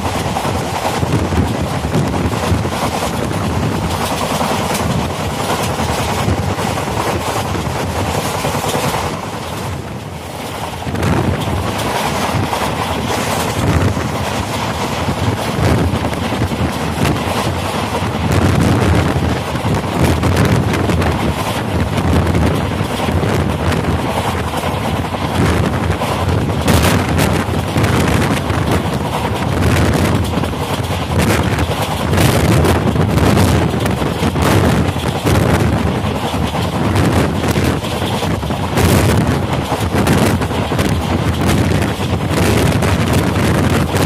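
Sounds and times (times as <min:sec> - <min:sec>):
train wheels rumbling on rails: 0:00.0 - 0:44.0
wind buffeting the microphone: 0:00.0 - 0:44.0.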